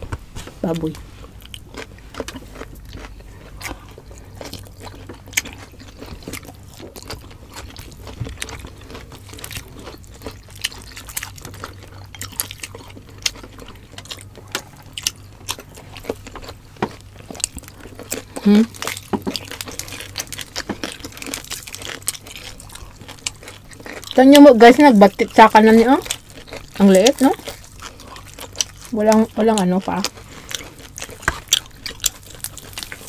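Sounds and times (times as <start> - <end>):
people chewing wetly: 0.1 - 33.0.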